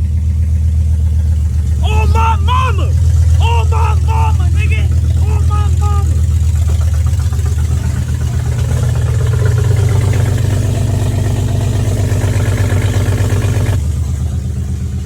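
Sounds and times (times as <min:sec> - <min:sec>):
car engine running loud: 0:00.0 - 0:15.0.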